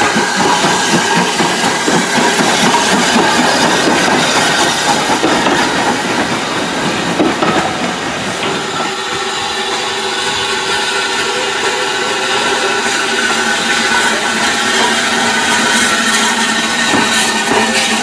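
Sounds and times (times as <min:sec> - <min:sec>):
steam hissing: 0:00.0 - 0:18.0
train wheels on track: 0:00.0 - 0:18.0.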